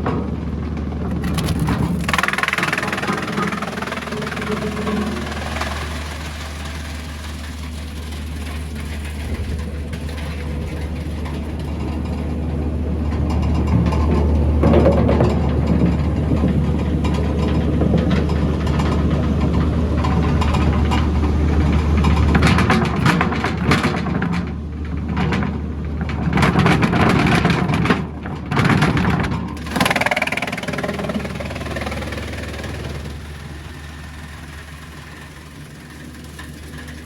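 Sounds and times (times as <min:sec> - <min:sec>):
wood chipper running: 0:00.0 - 0:37.0.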